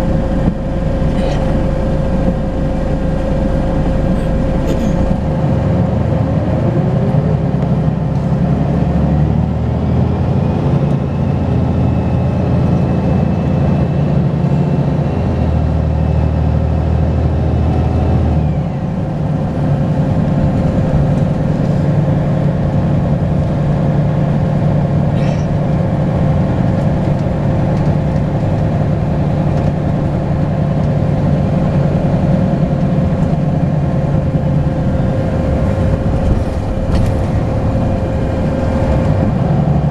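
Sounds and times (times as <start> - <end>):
diesel bus engine pulling hard: 0.0 - 39.9.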